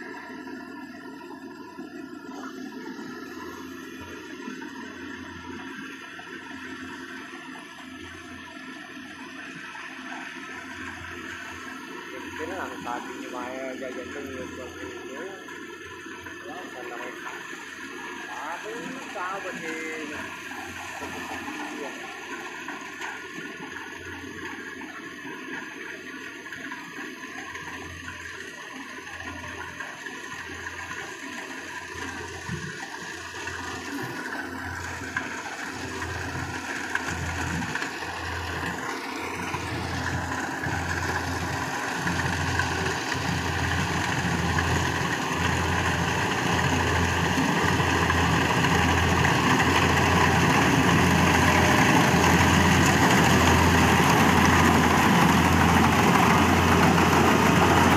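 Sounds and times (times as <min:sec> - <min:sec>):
combine harvester engine throbbing: 0:00.0 - 0:57.9.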